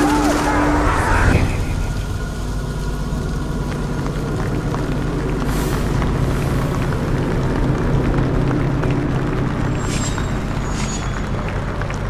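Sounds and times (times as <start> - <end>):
faint crackles: 0.0 - 12.0
low rumbling drone: 0.0 - 12.0.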